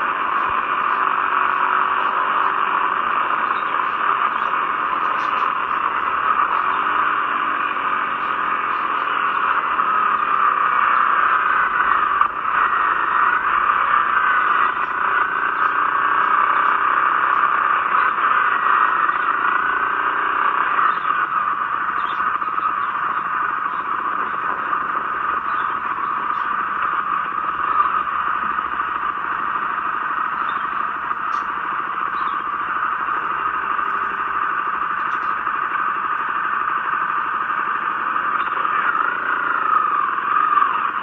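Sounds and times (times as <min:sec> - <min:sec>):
faint motorcycle engine: 0:00.0 - 0:41.0.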